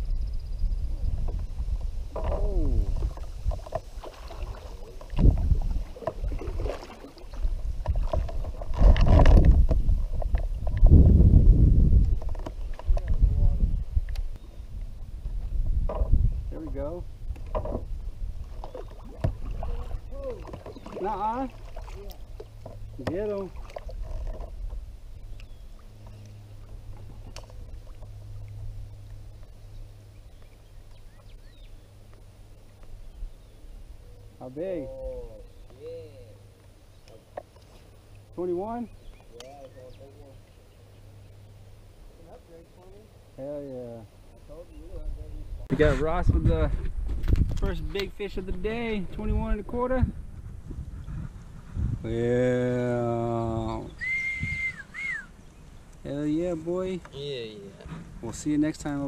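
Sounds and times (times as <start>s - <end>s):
low rumble on microphone: 0.0s - 36.6s, 44.3s - 56.6s.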